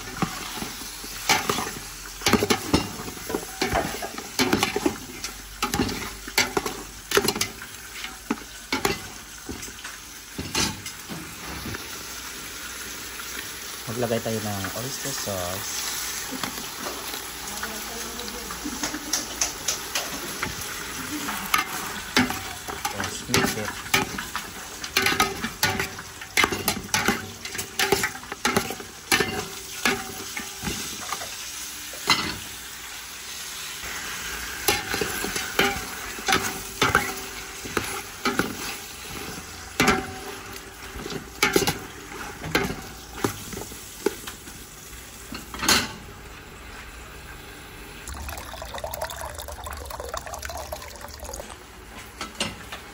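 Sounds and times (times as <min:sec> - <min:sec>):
chicken sizzling in oil: 0:00.0 - 0:48.2.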